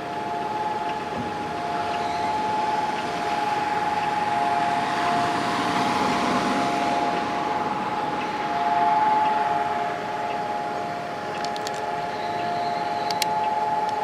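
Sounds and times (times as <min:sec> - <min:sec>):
civil defense siren steady tone: 0:00.0 - 0:14.0.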